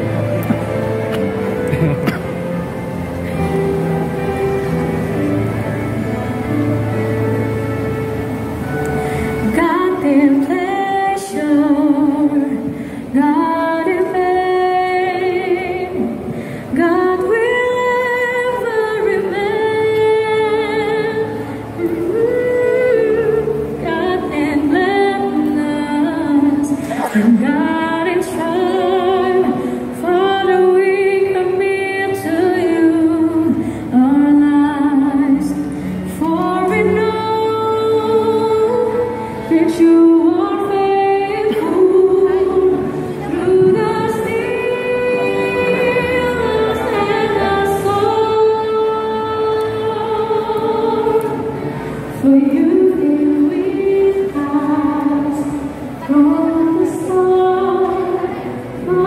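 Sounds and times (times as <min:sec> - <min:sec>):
woman singing with vibrato: 0:00.0 - 0:59.0.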